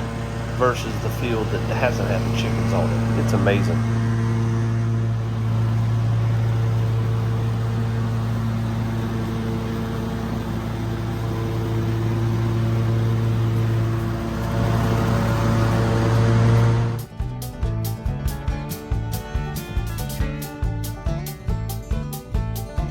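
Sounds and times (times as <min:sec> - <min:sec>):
riding lawn mower engine running: 0:00.0 - 0:22.9.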